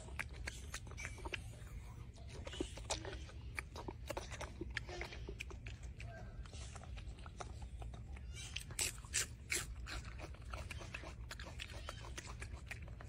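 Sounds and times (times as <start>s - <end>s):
monkey chewing wetly: 0.0s - 13.0s.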